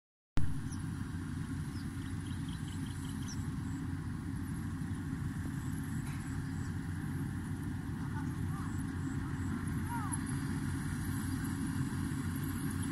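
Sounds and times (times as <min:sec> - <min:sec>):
combine harvester engine drone: 0:00.4 - 0:12.9.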